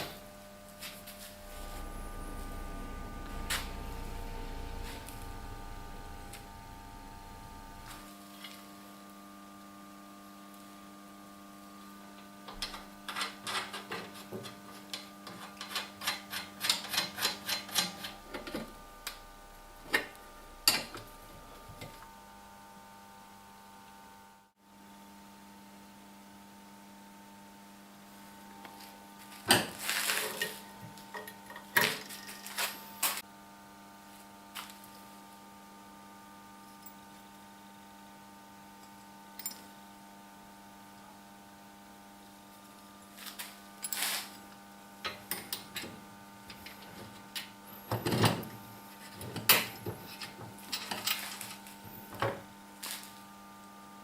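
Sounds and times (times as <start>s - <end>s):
electrical hum: 0.0s - 25.9s, 27.8s - 54.0s.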